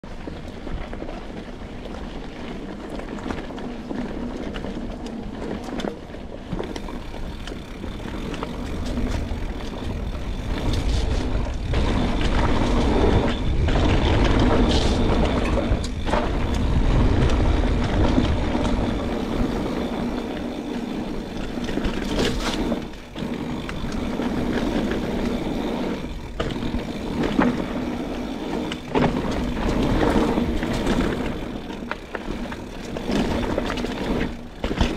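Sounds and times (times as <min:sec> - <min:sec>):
mountain bike rattling on trail: 0:00.0 - 0:34.9.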